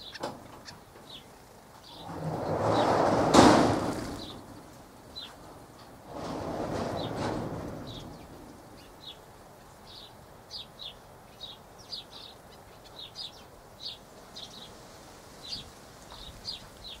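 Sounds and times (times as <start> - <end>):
small birds chirping: 0.0 - 3.0, 4.0 - 6.0, 7.8 - 17.0.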